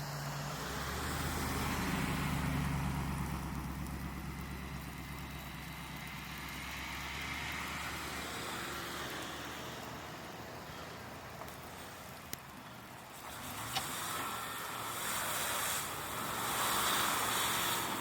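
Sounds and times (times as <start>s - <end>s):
road noise: 0.0s - 18.0s
vehicle passing by: 0.0s - 18.0s.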